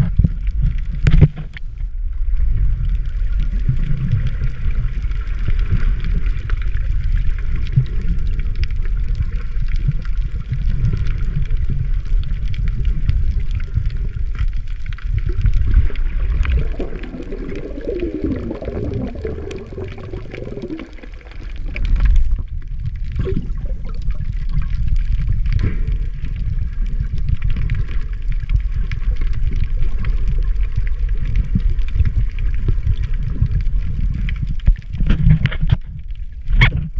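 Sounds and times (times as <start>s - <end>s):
underwater rumble of moving water: 0.0s - 36.9s
wavering underwater gurgle: 0.0s - 36.9s.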